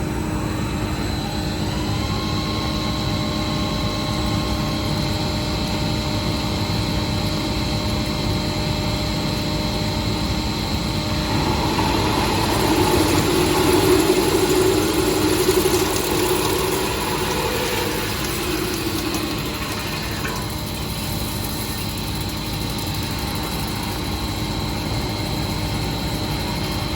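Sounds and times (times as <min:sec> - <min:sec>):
loud machine whirring: 0:00.0 - 0:26.9
drilling machine humming: 0:00.1 - 0:26.9.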